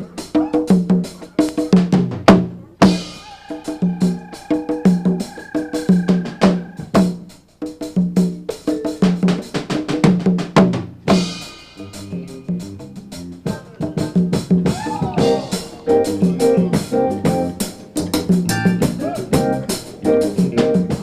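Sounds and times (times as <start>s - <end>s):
live band groove: 0.0s - 21.0s.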